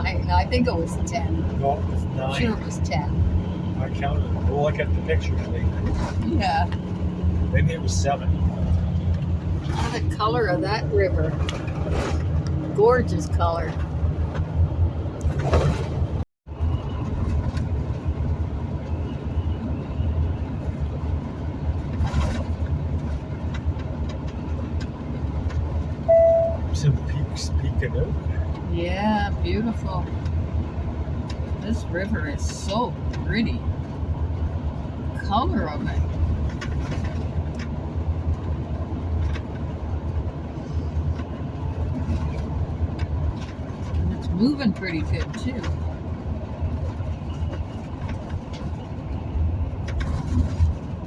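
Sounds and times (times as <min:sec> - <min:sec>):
engine and road noise in car cabin: 0:00.0 - 0:51.0.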